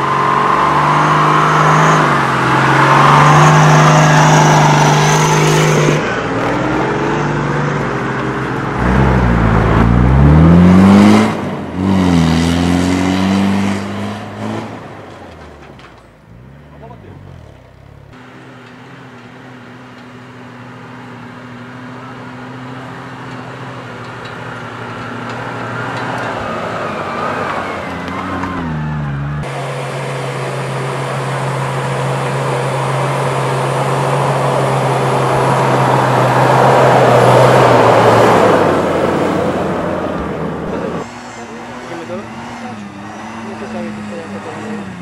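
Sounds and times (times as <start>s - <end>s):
off-road engines running: 0.0s - 45.0s.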